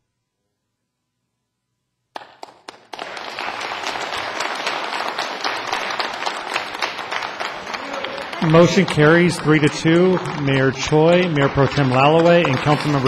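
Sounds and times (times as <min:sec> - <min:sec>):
audience applause: 0:02.2 - 0:13.0.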